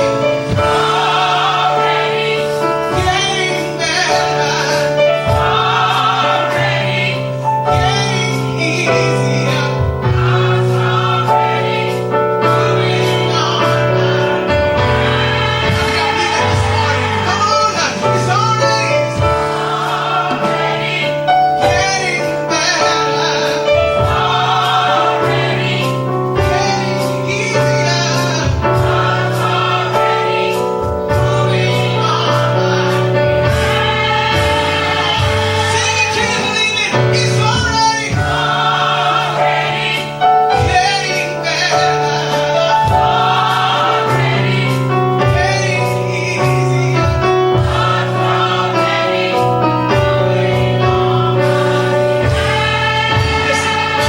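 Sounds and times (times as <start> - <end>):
gospel choir singing: 0.0 - 54.0
steady drum beat: 0.2 - 8.6, 9.6 - 23.1, 23.7 - 41.1, 42.8 - 54.0.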